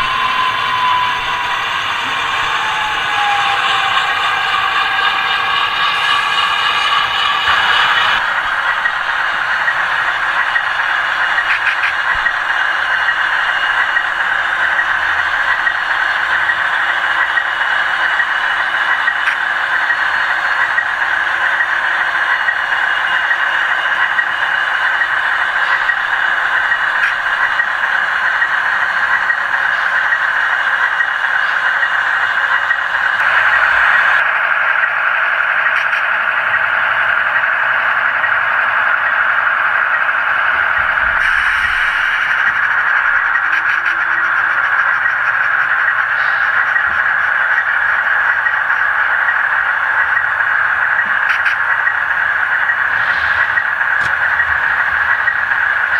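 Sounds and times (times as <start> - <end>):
model trains whirring on track: 0.0 - 55.9.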